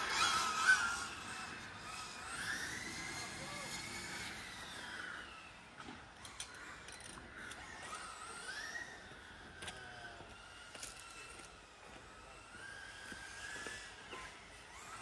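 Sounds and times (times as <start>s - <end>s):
distant small racing engine whining: 0.0s - 15.0s.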